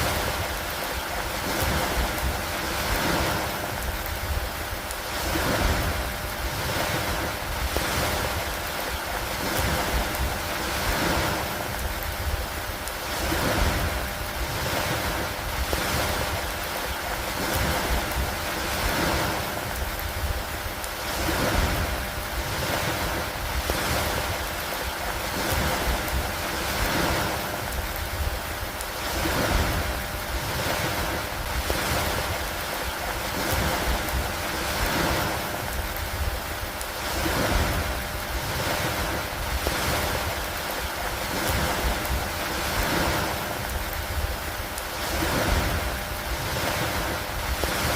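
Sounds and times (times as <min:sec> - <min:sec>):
water rushing: 0:00.0 - 0:47.9
wind: 0:00.0 - 0:47.9.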